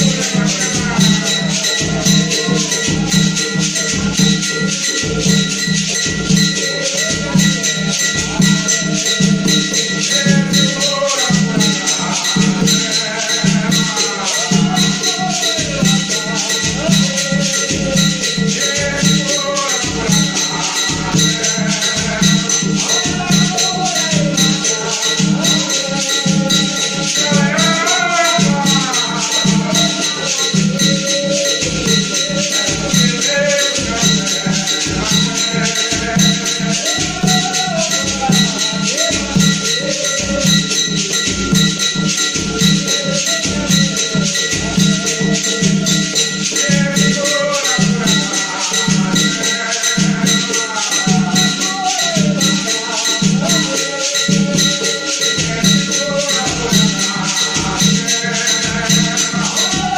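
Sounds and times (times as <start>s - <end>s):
drums beating fast rhythm: 0.0s - 59.9s
rattles shaking: 0.0s - 59.9s
voices singing: 0.0s - 59.9s.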